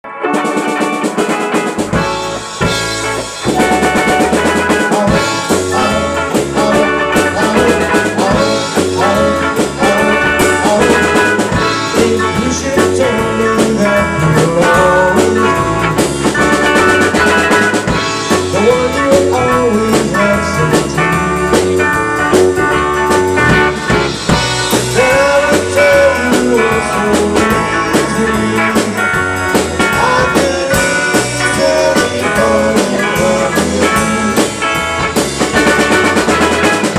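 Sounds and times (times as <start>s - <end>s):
bass guitar: 0.0s - 36.9s
electric guitars: 0.0s - 36.9s
drum kit beat: 0.1s - 36.9s.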